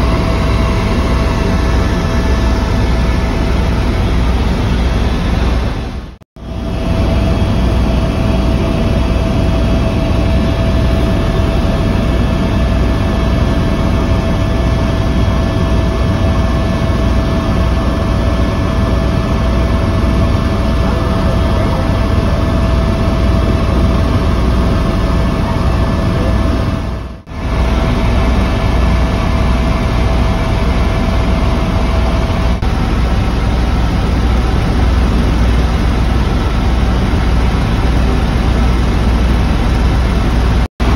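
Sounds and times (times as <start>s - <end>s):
helicopter engine and rotor drone: 0.0s - 40.9s
thin steady whine: 0.0s - 40.9s.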